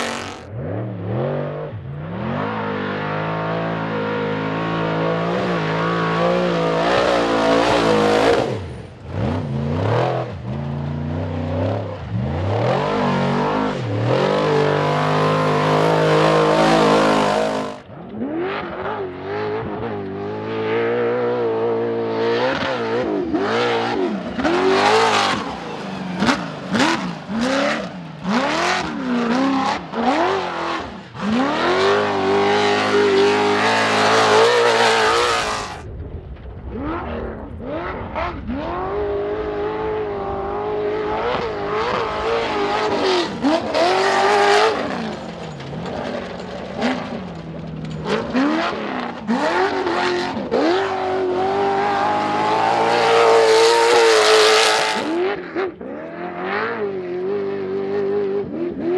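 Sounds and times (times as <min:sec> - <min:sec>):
buggy engines revving: 0:00.0 - 0:36.0, 0:36.7 - 0:58.9.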